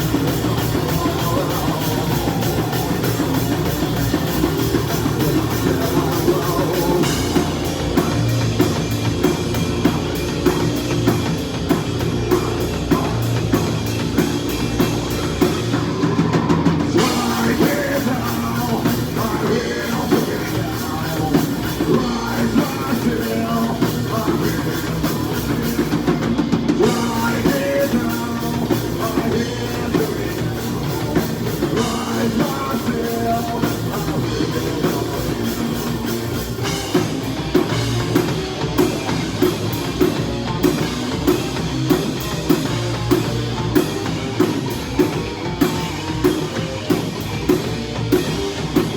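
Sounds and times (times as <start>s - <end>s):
drum kit: 0.0s - 48.9s
heavy distorted guitars: 0.0s - 48.9s.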